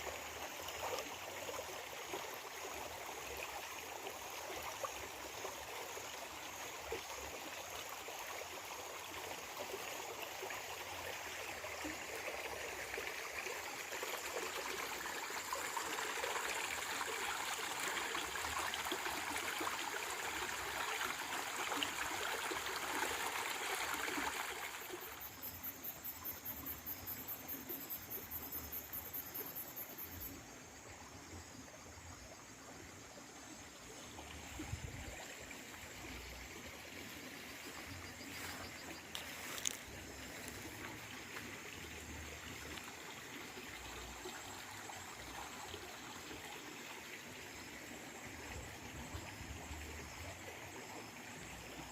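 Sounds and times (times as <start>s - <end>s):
high pulsing insect call: 0.0s - 51.9s
stream flowing: 0.0s - 51.9s.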